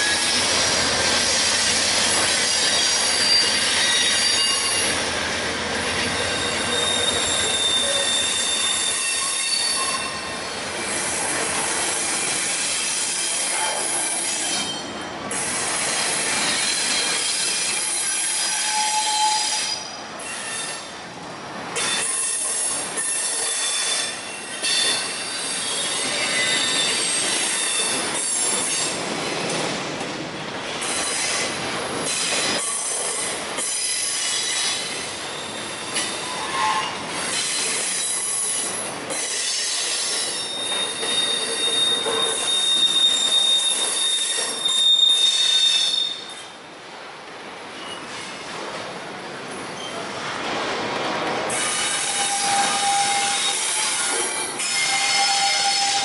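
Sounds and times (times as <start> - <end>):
train wheels squealing on rails: 0.0 - 29.8, 30.6 - 46.7, 47.7 - 48.8, 49.5 - 56.0
freight train rumble: 0.0 - 56.0.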